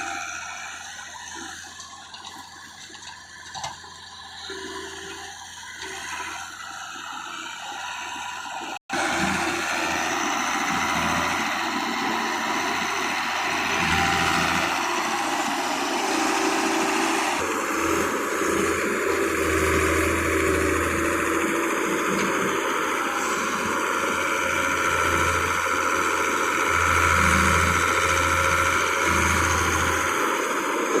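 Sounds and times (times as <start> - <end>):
heavy machine engine running: 0.0 - 31.0.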